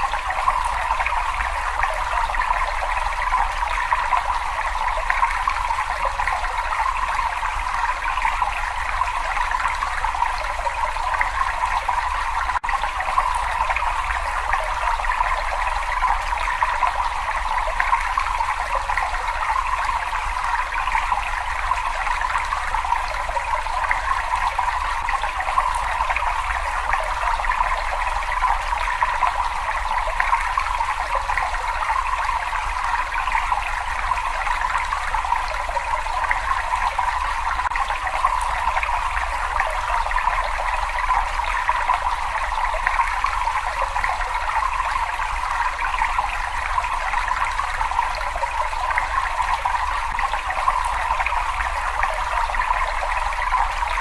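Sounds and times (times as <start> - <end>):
running water trickling and splashing: 0.0 - 54.0.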